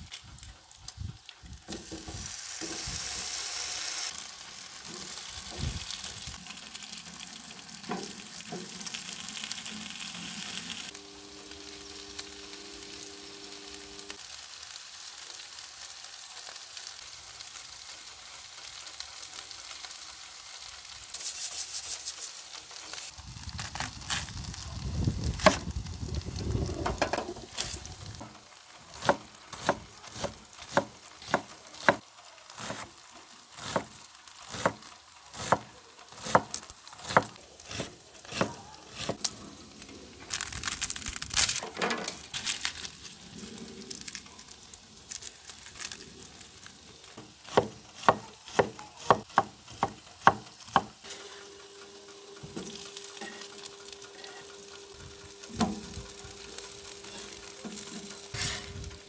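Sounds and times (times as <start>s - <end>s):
food sizzling on griddle: 0.0s - 59.0s.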